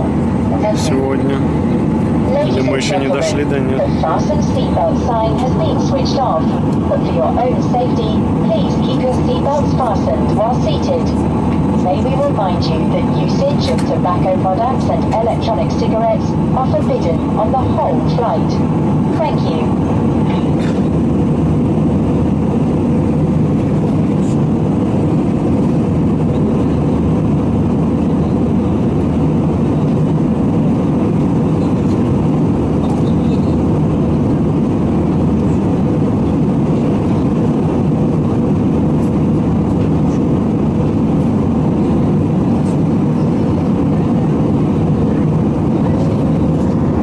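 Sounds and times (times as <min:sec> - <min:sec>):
jet airliner cabin drone: 0:00.0 - 0:47.0.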